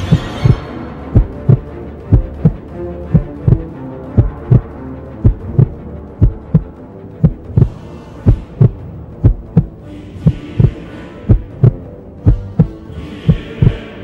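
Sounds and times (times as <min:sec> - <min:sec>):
music drone: 0:00.0 - 0:14.0
heartbeat thumps: 0:01.2 - 0:13.8.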